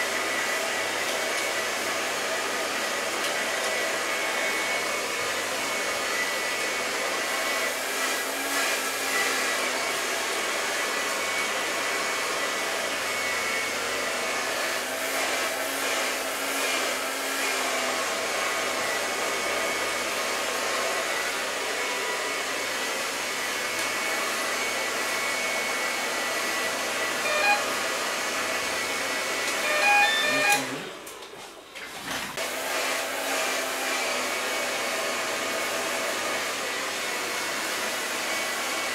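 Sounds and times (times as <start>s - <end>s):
hair dryer blowing: 0.0s - 31.3s, 32.3s - 38.9s.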